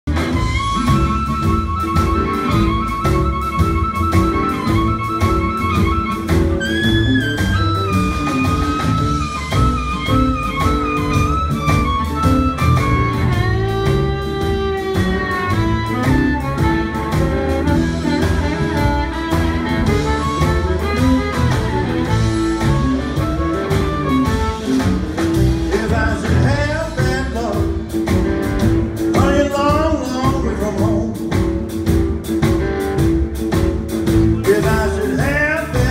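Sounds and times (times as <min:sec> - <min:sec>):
blues band playing: 0:00.0 - 0:35.9
harmonica bending notes: 0:00.1 - 0:35.9.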